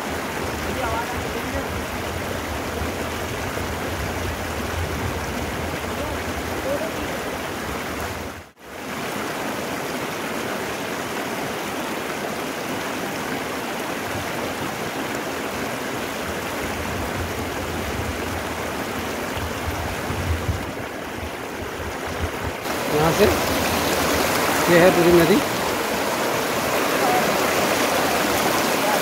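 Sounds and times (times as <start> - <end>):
river rushing over rocks: 0.0 - 3.9, 5.4 - 29.0.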